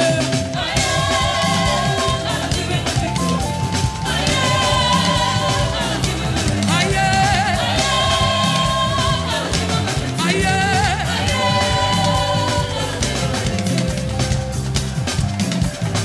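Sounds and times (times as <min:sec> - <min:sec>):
several people singing: 0:00.0 - 0:14.5
backing band: 0:00.0 - 0:16.0.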